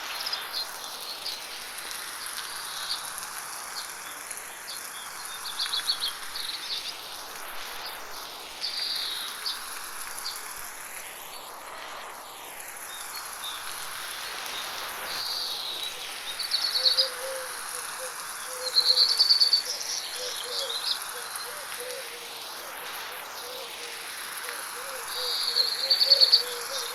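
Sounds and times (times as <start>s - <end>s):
light rain hissing: 0.0s - 26.9s.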